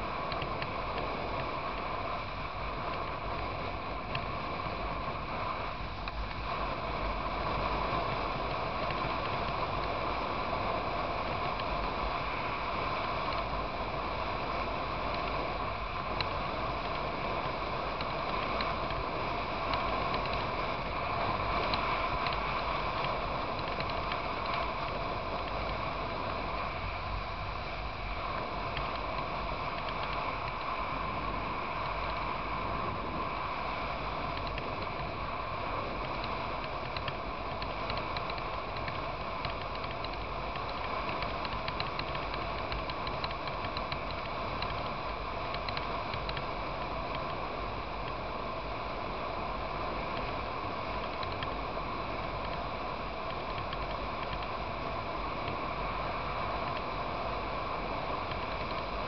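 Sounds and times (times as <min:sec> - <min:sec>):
motorcycle engine drone: 0:00.0 - 0:59.0.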